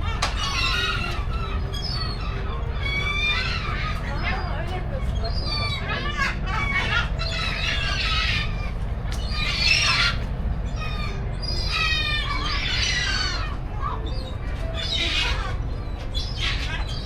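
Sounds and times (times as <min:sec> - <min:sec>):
birds squawking: 0:00.0 - 0:17.0
steady low rumble: 0:00.0 - 0:17.0.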